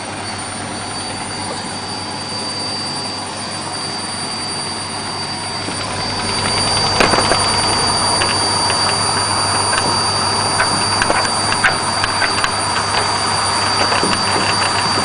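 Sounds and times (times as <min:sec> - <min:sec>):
washing machine drum spinning: 0:00.0 - 0:15.0.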